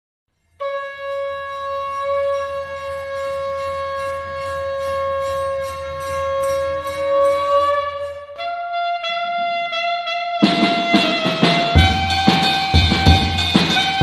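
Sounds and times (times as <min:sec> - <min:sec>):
conch shell blown: 0:00.3 - 0:14.0.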